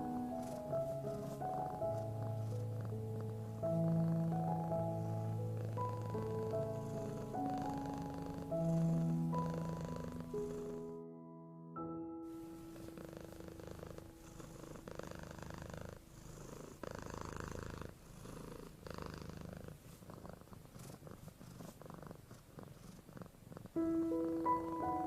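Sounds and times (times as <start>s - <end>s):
cat purring: 0.0s - 11.0s, 12.4s - 25.0s.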